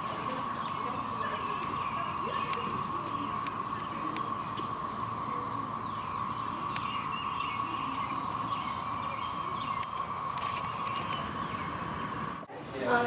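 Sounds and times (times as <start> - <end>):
bird chirps: 0.0 - 12.5
cicadas droning: 0.0 - 13.0.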